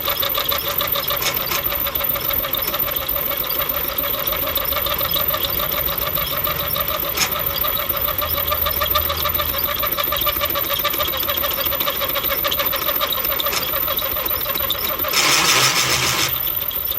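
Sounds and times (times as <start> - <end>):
drill chattering through steel: 0.0 - 16.9.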